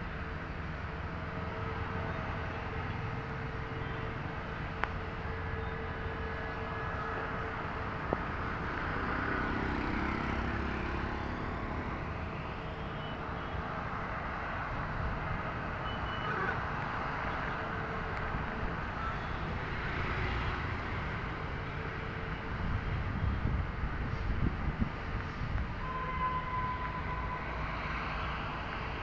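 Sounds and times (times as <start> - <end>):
traffic on a wet road: 0.0 - 29.0.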